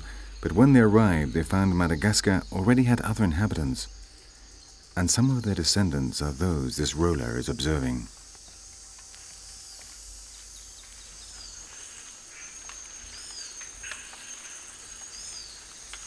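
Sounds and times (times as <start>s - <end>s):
bird chirps: 0.0s - 16.0s
high-pitched insect drone: 0.0s - 16.0s.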